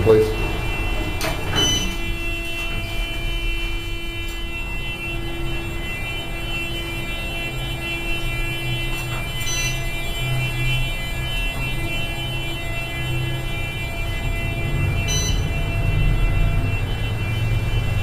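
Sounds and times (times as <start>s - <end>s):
elevator motor hum: 0.0s - 18.0s
elevator whine: 0.0s - 18.0s.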